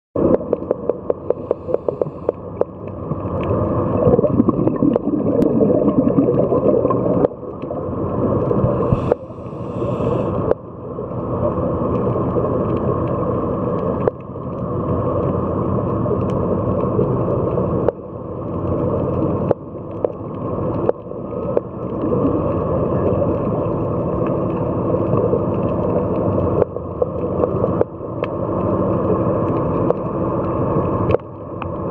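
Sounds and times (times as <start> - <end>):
underwater bubbles gurgling: 0.2 - 31.9.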